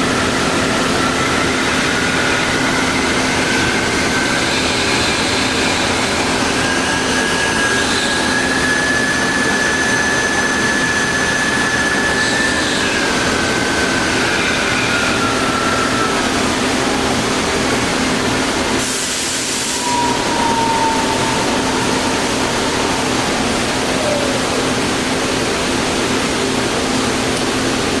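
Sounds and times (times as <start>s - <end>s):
whine sliding lower in pitch: 0.0s - 27.7s
drill press humming: 0.0s - 28.0s.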